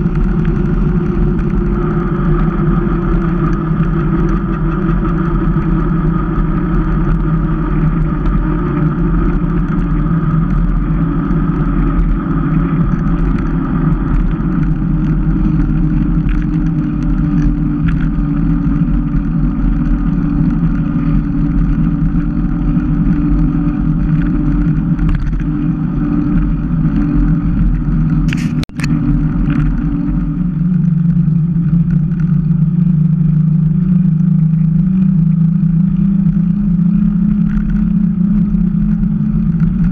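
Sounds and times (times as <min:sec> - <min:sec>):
bike tyres humming on road: 0:00.0 - 0:39.9
sharp clatter: 0:00.0 - 0:39.9
wind on microphone: 0:00.0 - 0:39.9.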